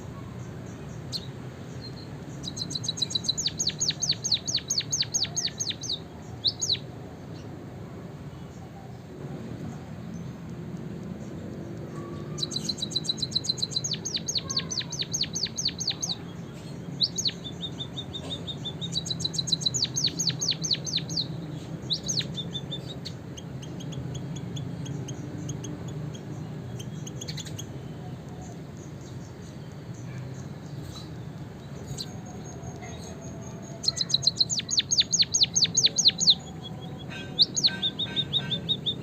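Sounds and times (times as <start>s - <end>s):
songbird singing trills: 0.0s - 7.6s, 8.2s - 39.0s.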